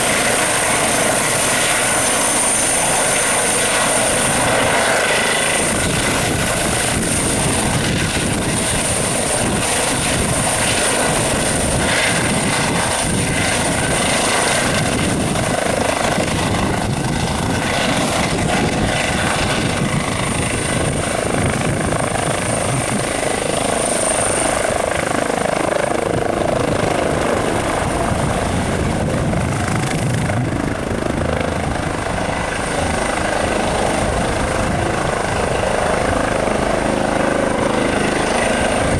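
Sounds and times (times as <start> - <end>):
helicopter rotor noise: 0.0 - 38.9
high turbine whine: 0.0 - 38.9.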